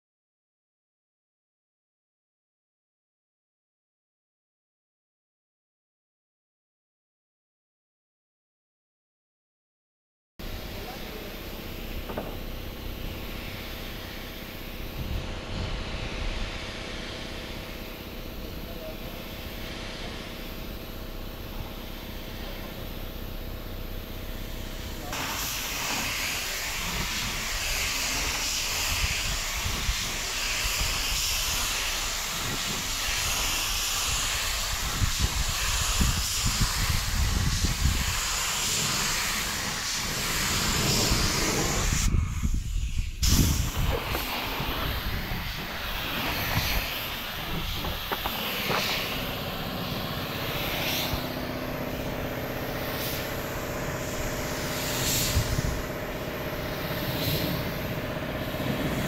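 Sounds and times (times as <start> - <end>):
spray gun hissing: 10.4 - 59.0.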